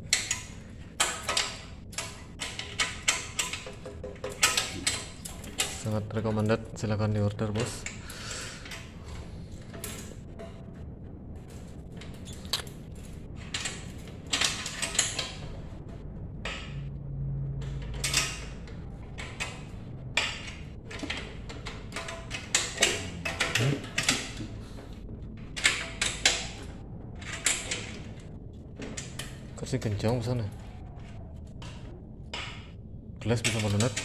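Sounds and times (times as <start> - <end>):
metal parts clicking and rattling: 0.0 - 34.0.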